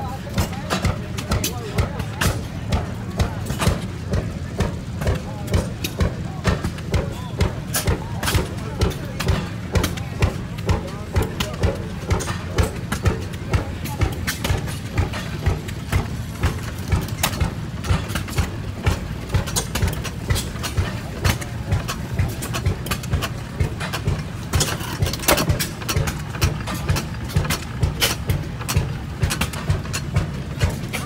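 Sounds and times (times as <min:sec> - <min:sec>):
gas engines exhaust popping: 0:00.0 - 0:31.0.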